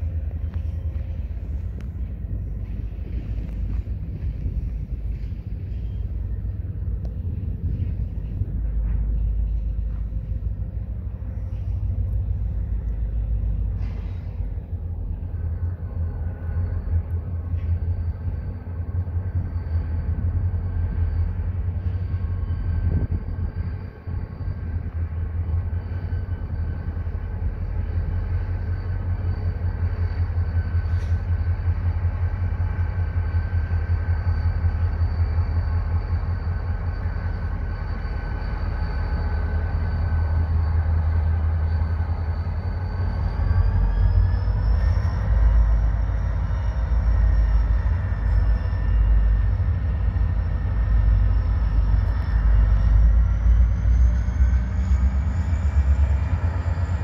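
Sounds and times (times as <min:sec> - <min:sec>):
diesel locomotive rumble: 0:00.0 - 0:57.0
thin high whine: 0:00.0 - 0:57.0.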